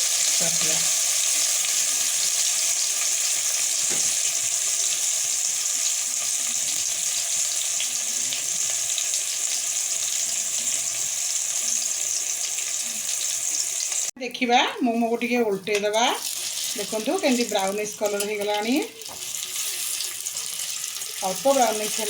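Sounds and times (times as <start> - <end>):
dumplings sizzling in oil: 0.0 - 14.2, 15.1 - 22.0.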